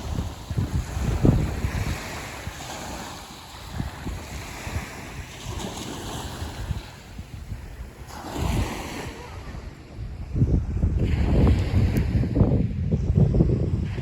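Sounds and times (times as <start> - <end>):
waves washing on shore: 0.0 - 14.0
wind gusting on microphone: 0.0 - 14.0.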